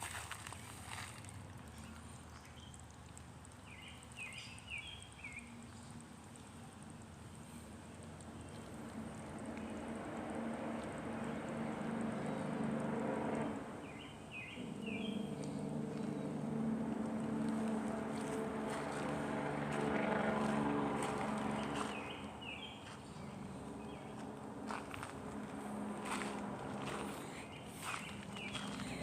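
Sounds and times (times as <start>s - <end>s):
distant motor drone: 3.7s - 29.0s.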